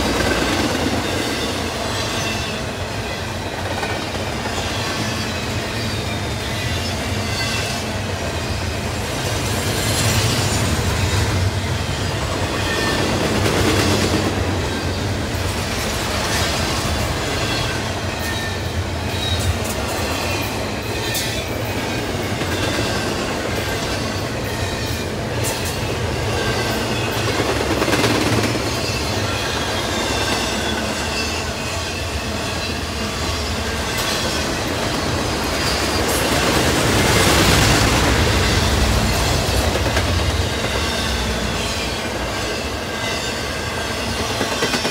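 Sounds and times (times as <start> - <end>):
steel wheels rumbling on rail: 0.0 - 44.9.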